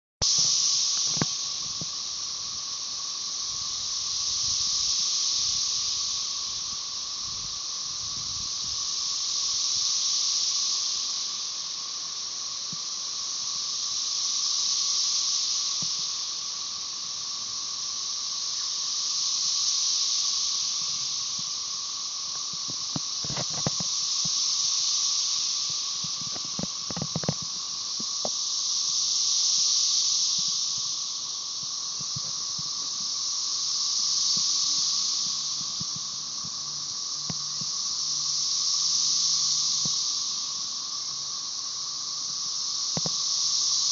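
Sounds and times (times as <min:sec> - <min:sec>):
cicadas buzzing: 0:00.2 - 0:43.9
lower cicada drone: 0:00.2 - 0:43.9.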